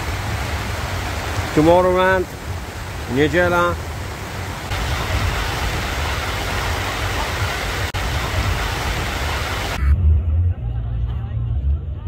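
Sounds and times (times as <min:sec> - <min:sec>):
heavy rain pouring: 0:00.0 - 0:09.8.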